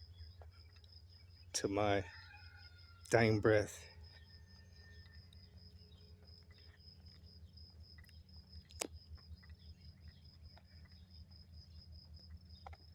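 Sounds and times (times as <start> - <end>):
insect chirping: 0.0 - 12.9.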